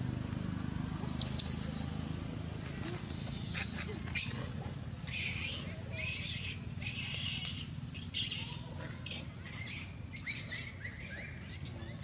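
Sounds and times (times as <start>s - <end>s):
monkeys shrieking: 1.1s - 12.0s.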